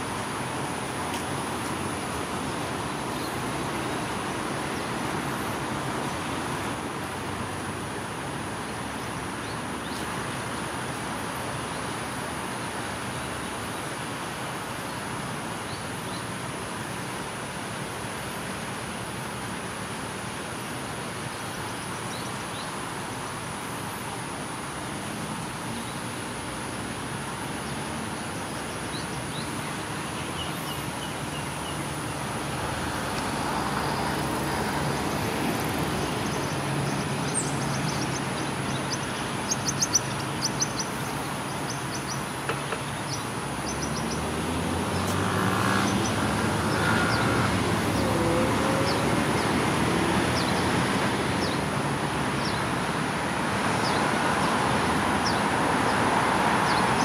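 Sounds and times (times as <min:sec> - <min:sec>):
distant city traffic rumble: 0:00.0 - 0:57.0.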